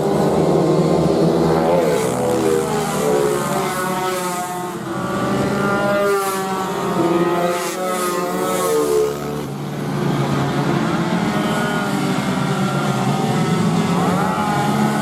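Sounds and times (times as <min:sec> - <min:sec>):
motorcycle engines at high revs: 0:00.0 - 0:15.0.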